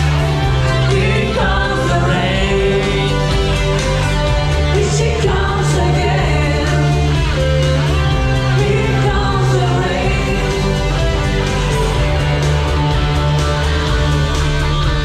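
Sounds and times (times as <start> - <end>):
song with singing and bass: 0.0 - 15.0.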